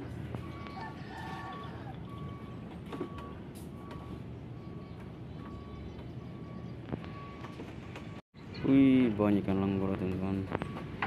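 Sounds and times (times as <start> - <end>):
vehicle reversing alarm beeps: 0.0 - 8.2, 9.7 - 11.0.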